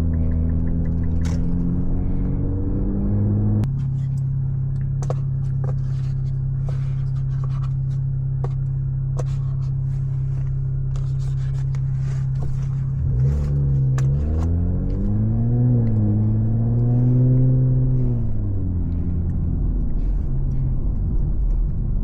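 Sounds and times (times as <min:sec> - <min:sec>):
car engine and exhaust droning: 0:00.0 - 0:22.0.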